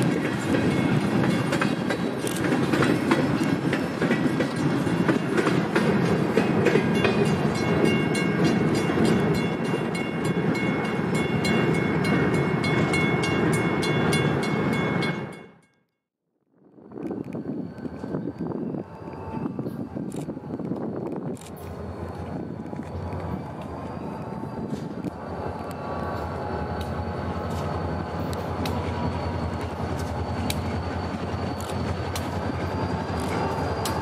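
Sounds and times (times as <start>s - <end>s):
train wheels clicking over rail joints: 0.0s - 10.9s, 17.0s - 34.0s.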